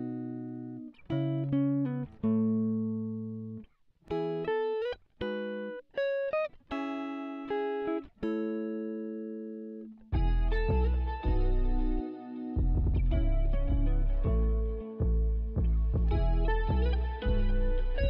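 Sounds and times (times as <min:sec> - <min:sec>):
plucked guitar notes and chords: 0:00.0 - 0:18.0.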